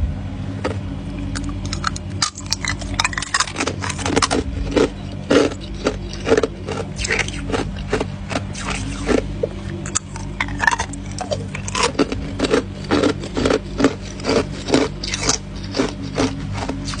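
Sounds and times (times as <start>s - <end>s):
steady low hum: 0.0s - 17.0s
ice crunching when chewed: 0.6s - 17.0s.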